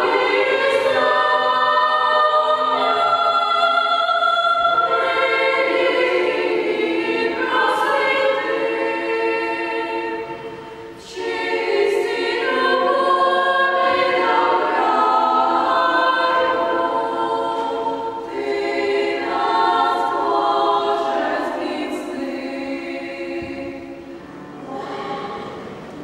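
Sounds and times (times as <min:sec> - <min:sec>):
girls' choir singing a cappella: 0:00.0 - 0:26.0.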